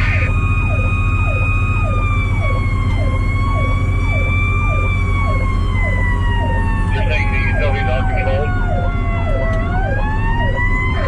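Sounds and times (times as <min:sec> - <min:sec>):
diesel engine drone: 0:00.0 - 0:11.0
electronic siren sweeps: 0:00.0 - 0:11.0
mechanical siren wailing: 0:00.0 - 0:11.0.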